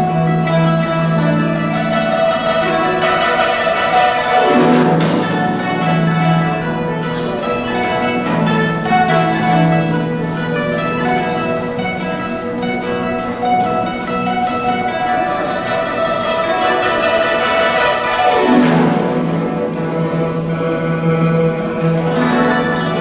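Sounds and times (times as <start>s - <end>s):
plucked zither playing: 0.0s - 23.0s.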